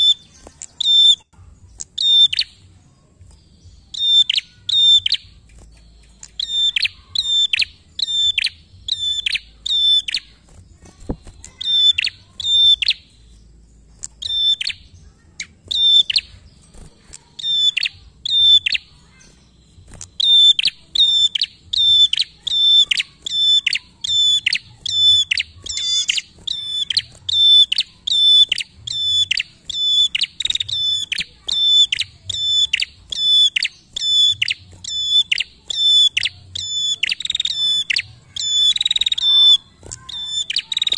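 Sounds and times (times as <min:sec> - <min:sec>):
bird calling sharp high notes: 0:03.9 - 0:13.4, 0:14.0 - 0:40.9.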